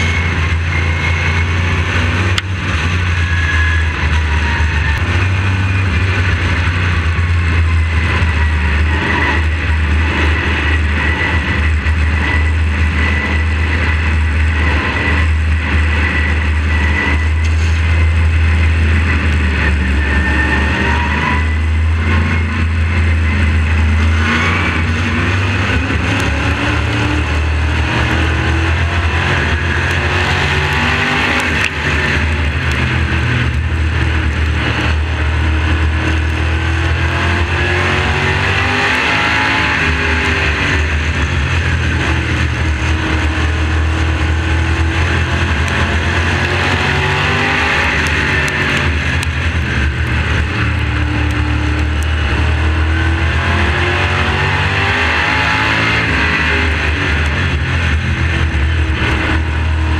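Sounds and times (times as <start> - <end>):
racing car engine at speed: 0.0 - 59.9.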